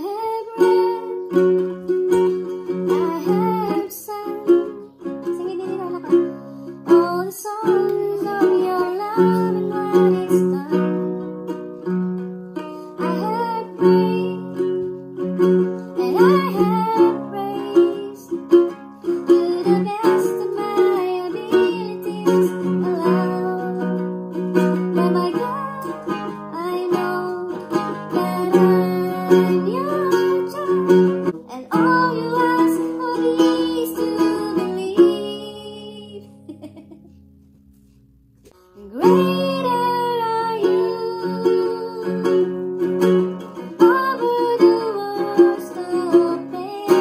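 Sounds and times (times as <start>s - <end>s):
classical guitar strummed chords: 0.0s - 36.5s, 38.6s - 47.0s.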